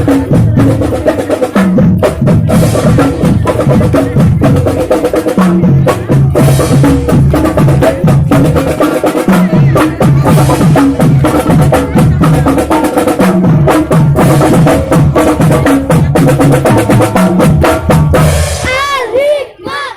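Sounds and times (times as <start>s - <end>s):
marching band playing: 0.0s - 19.4s
drums beating fast rhythm: 0.0s - 19.8s.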